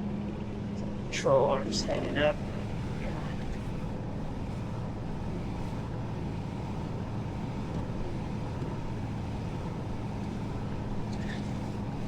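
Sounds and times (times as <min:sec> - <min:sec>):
truck engine idling: 0:01.2 - 0:12.0.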